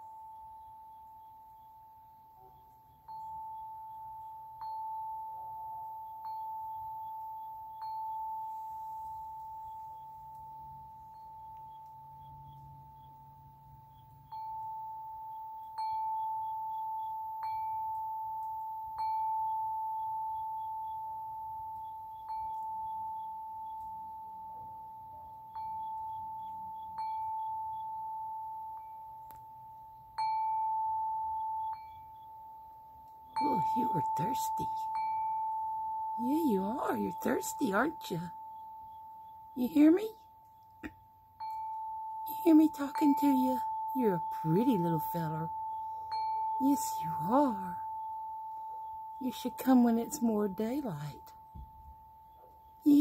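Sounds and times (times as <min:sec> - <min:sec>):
chime ringing: 0:00.0 - 0:53.0.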